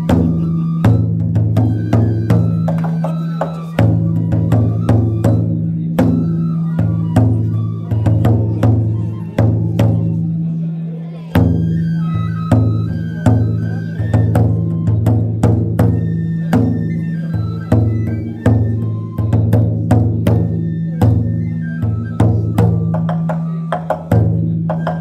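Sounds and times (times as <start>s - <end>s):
large drum struck with sticks: 0.0s - 10.2s, 11.3s - 25.0s.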